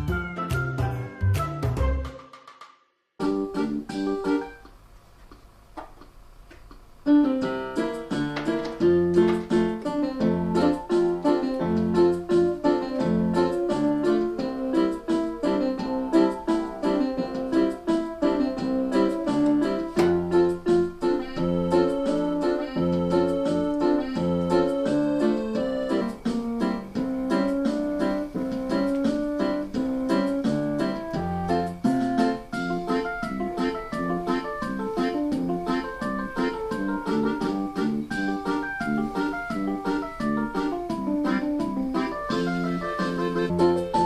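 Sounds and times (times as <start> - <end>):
electronic keyboard piano tune: 0.0 - 2.1, 3.2 - 4.7, 7.1 - 44.0.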